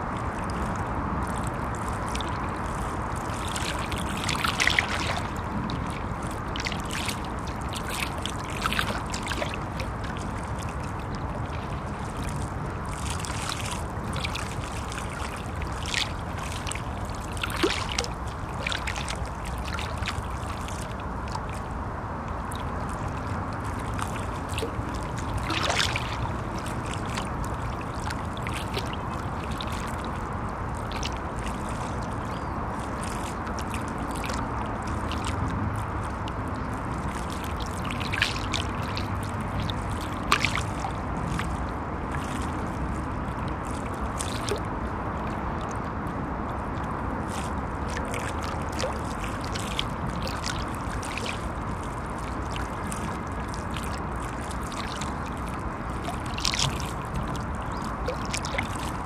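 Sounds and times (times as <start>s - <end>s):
traffic hum on bridge: 0.0s - 59.0s
waves lapping against shore: 0.0s - 59.0s.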